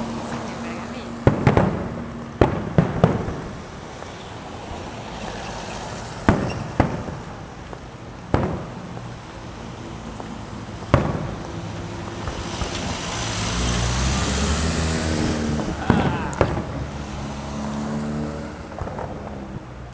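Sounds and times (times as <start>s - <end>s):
fireworks bangs echoing: 0.0s - 4.2s, 6.1s - 9.3s, 10.1s - 17.8s, 18.4s - 19.9s
steady background noise: 0.0s - 19.9s.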